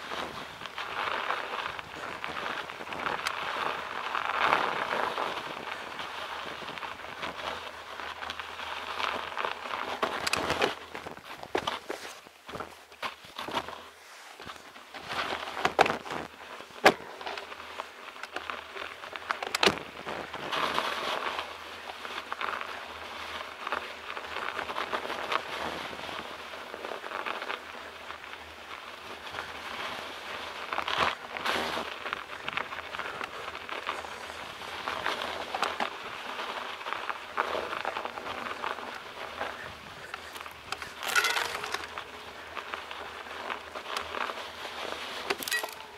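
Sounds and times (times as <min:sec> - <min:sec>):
bicycle tyres crunching snow: 0:00.0 - 0:45.9.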